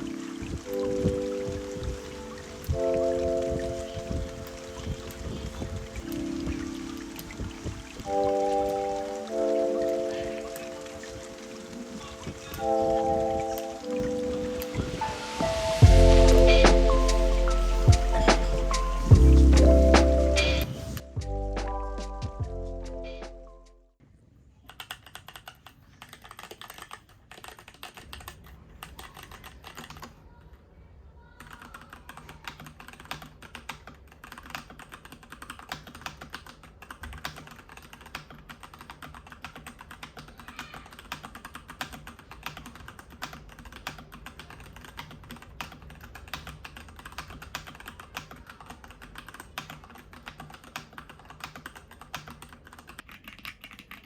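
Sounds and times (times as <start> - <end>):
mechanical keyboard typing: 0.0 - 20.7, 24.7 - 30.2, 31.4 - 54.0.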